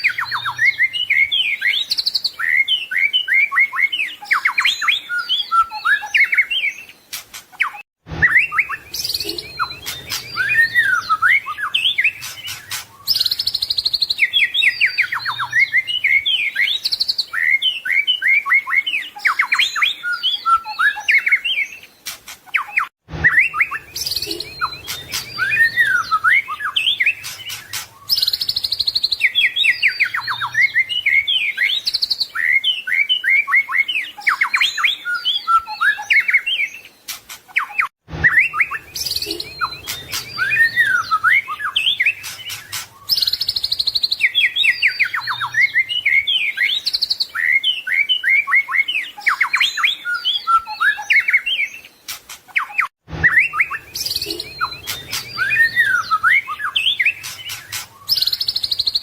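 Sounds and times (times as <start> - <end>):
songbird singing whistles and trills: 0.0 - 59.0.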